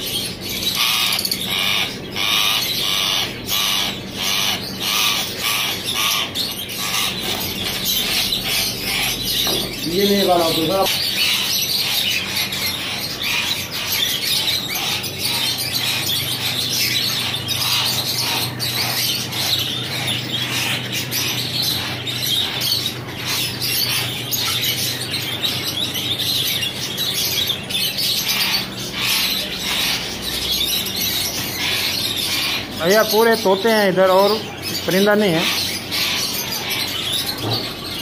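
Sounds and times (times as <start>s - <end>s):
birds chirping and chattering: 0.0s - 38.0s
steady low hum: 0.0s - 38.0s.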